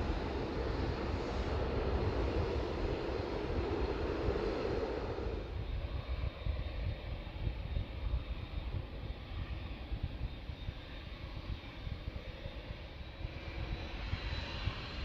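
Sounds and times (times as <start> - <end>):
turboprop airliner engines rumbling: 0.0 - 15.0.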